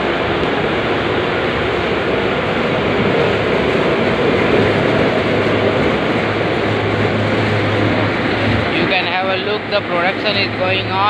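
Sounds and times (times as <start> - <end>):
low hum: 0.0 - 11.0
machinery rushing noise: 0.0 - 11.0.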